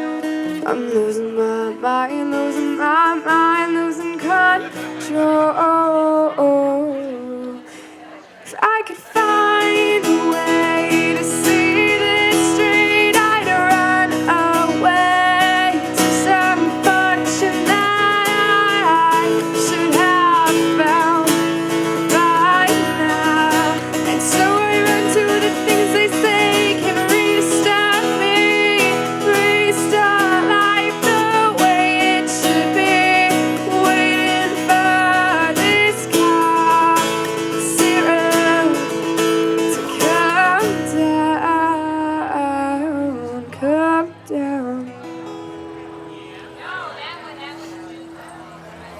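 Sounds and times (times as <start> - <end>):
woman singing wordless melody: 0.0 - 7.7, 8.5 - 48.1
acoustic guitar strumming chords: 0.0 - 8.0, 8.7 - 48.9.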